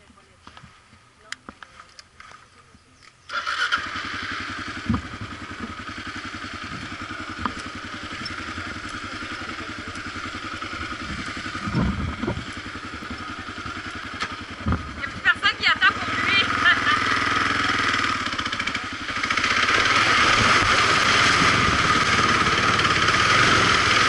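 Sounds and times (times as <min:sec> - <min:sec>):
motorcycle engine idling: 0:01.2 - 0:24.0.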